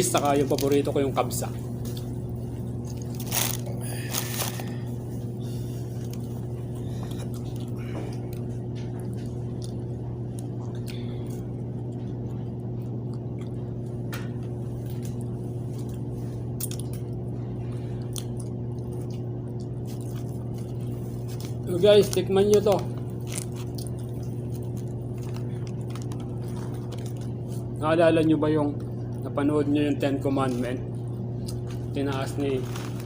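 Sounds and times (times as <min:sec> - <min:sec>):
person chewing and crunching: 0:00.0 - 0:27.8, 0:30.2 - 0:33.0
steady low hum: 0:00.0 - 0:33.0.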